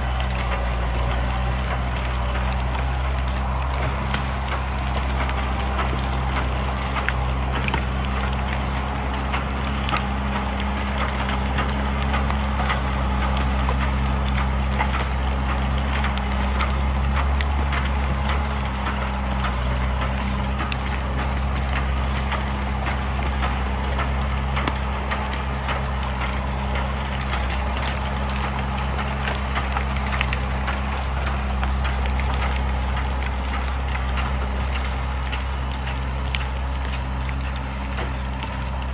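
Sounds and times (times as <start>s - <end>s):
engine running steadily: 0.0s - 38.9s
small clicks and ticks: 0.0s - 38.9s.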